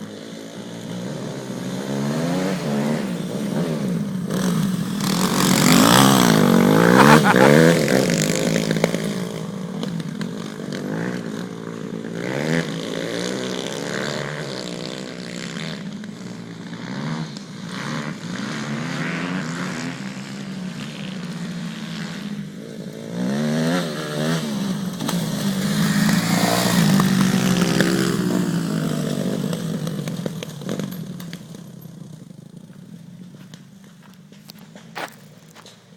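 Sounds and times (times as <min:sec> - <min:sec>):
motocross bike engine revving: 0:00.0 - 0:33.5.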